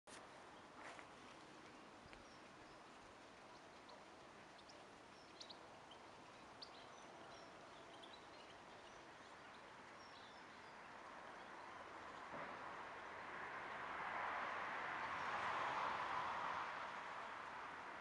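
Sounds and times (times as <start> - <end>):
faint outdoor hiss: 0.1 - 18.0.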